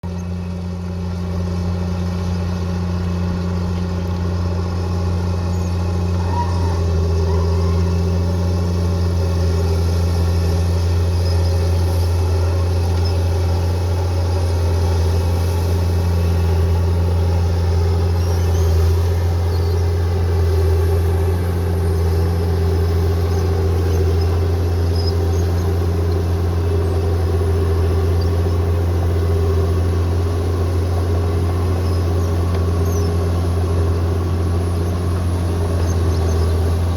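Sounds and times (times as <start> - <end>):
bulldozer diesel engine droning: 0.0 - 36.9.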